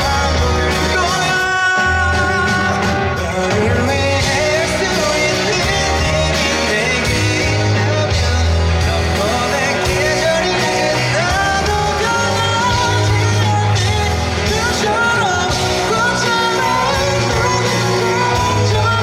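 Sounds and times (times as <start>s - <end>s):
man singing a ballad: 0.0s - 19.0s
steady bass line: 0.0s - 19.0s.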